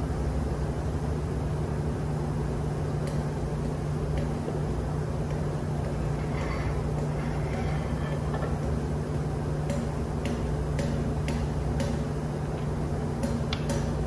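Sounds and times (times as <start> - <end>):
engine-room machinery hum: 0.0 - 14.0.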